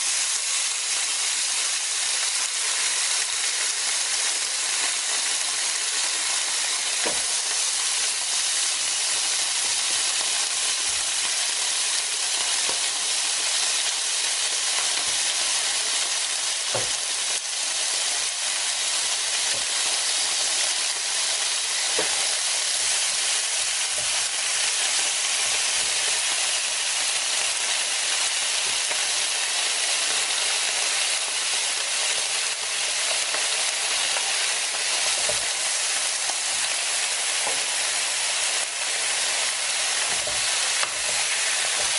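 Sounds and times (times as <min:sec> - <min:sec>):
meat sizzling on grill plate: 0:00.0 - 0:41.9.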